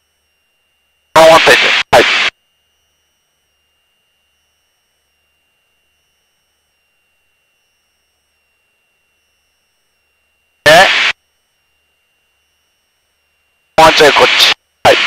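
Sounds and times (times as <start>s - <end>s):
weak low hum: 0.0s - 15.0s.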